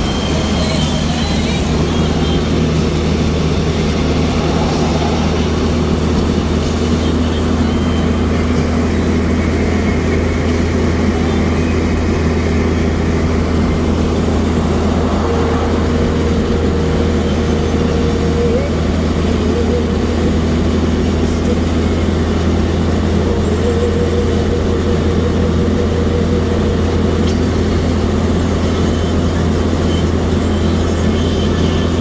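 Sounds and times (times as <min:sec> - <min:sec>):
vehicle engine and road drone: 0:00.0 - 0:32.0.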